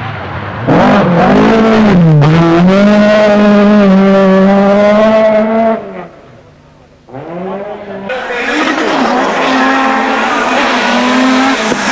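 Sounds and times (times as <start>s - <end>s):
rally car engine accelerating: 0.0s - 11.9s.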